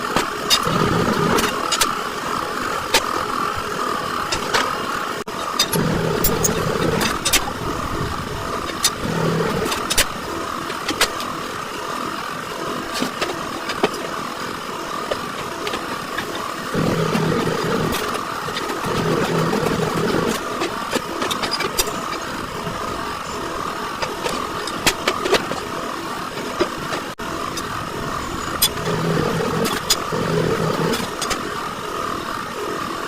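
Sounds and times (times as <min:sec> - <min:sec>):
vehicle engines running: 0:00.0 - 0:33.0.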